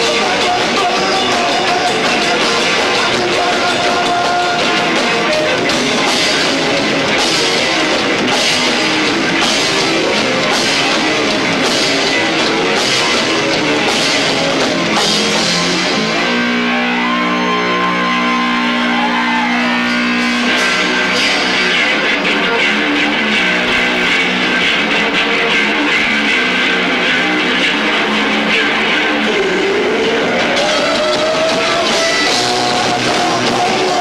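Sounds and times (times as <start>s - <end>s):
loud heavy rock band: 0.0s - 34.0s.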